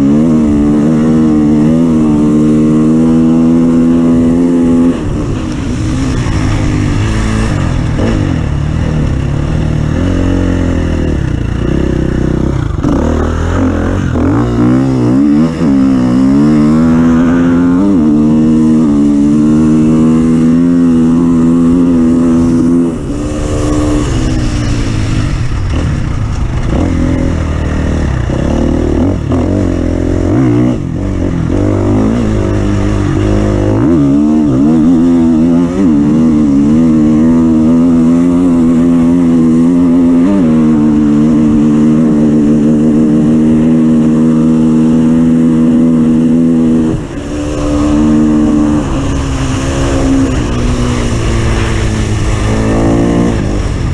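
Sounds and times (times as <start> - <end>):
racing engine revving: 0.0 - 53.9.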